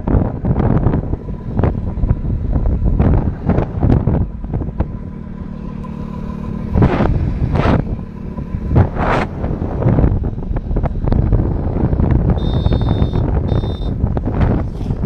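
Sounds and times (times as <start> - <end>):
motorcycle engine hum: 0.0 - 15.0
wind buffeting microphone: 0.0 - 15.0.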